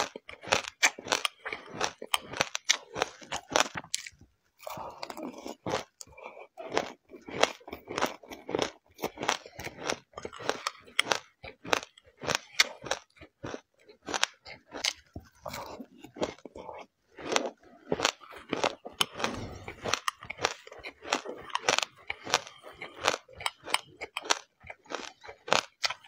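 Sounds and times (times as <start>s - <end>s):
seeds crunching while chewed: 0.0s - 26.0s.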